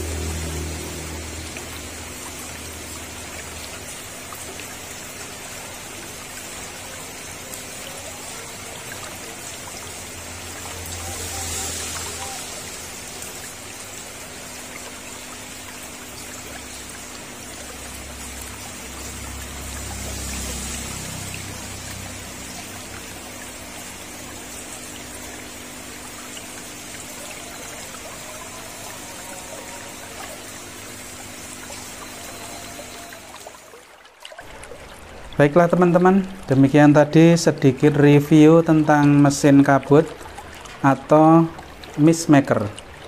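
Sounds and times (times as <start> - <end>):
water trickling and splashing: 0.0 - 43.0.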